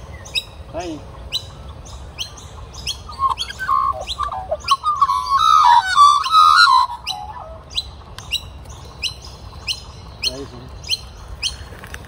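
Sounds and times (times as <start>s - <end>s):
magpie warbling song: 0.0s - 11.7s.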